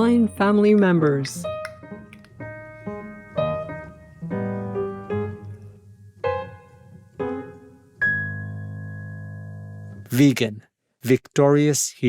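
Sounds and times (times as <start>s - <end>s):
piano chords: 0.0s - 10.2s.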